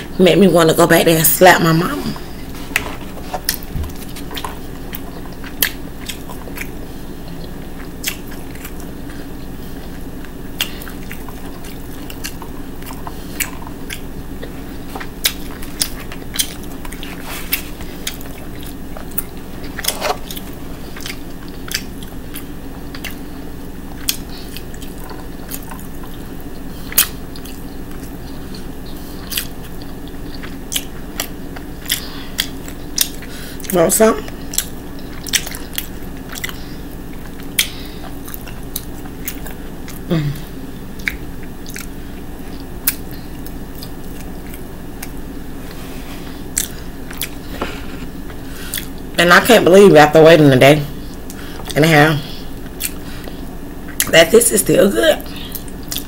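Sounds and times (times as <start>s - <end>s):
steady low hum: 0.0s - 56.0s
person chewing: 2.1s - 49.2s, 51.0s - 54.1s, 55.3s - 56.0s.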